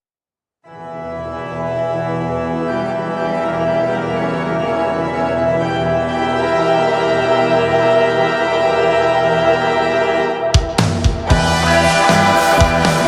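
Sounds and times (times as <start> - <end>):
organ-like keyboard chords: 0.7 - 13.0.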